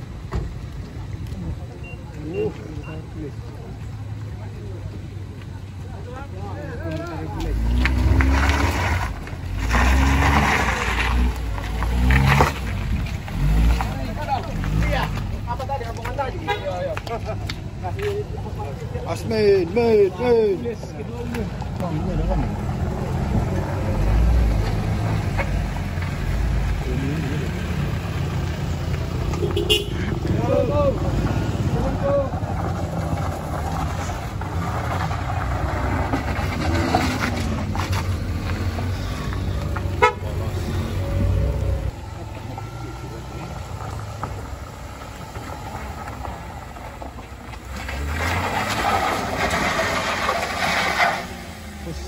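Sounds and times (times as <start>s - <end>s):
car engine driving on gravel: 0.0s - 52.0s.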